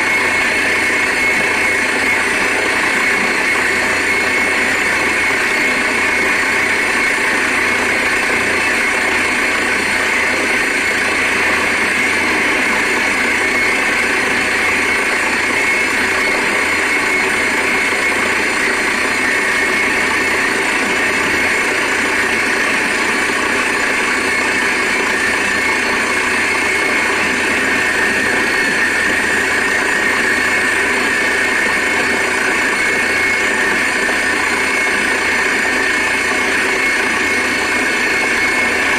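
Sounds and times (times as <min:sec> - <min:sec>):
drilling rig running: 0:00.0 - 0:38.9.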